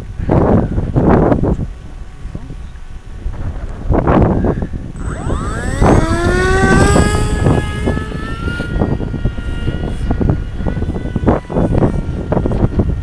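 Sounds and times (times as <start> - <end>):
electric motor and propeller whine: 0.0 - 13.0
wind buffeting microphone: 0.0 - 13.0.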